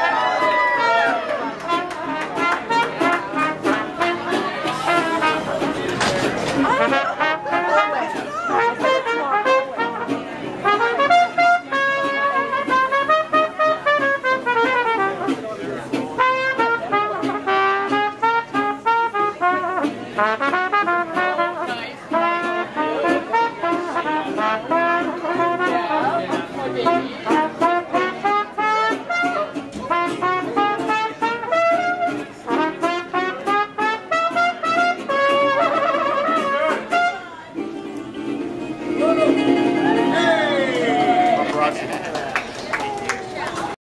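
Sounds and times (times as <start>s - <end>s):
horn melody: 0.0s - 15.6s, 16.2s - 37.4s
trumpet: 0.0s - 37.4s
jazz band playing: 0.0s - 43.3s.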